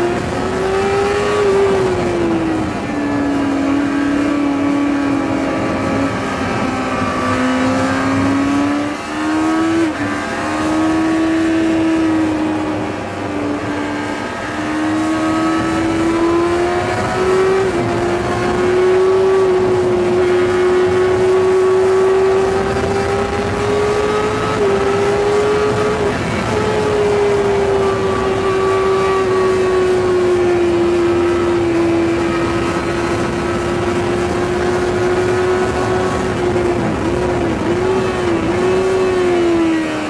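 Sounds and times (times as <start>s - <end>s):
motorcycle engine running hard: 0.0s - 40.0s.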